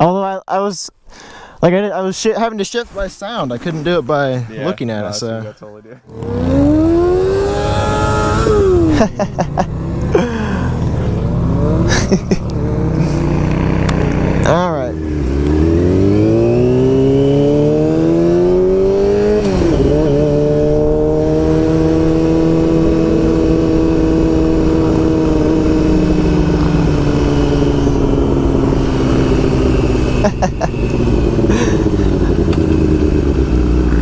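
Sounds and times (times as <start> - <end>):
motorcycle engine accelerating: 6.1 - 34.0.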